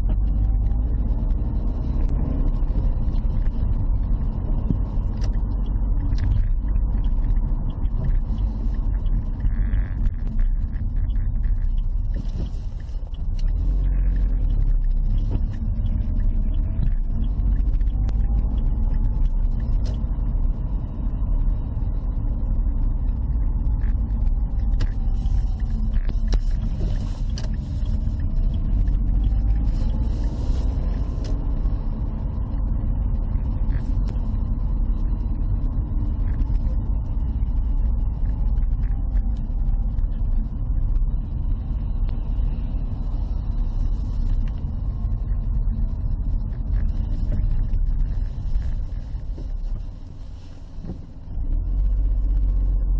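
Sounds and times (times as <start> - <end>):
car engine and tyre rumble: 0.0 - 52.9
faint engine whine: 0.0 - 52.9.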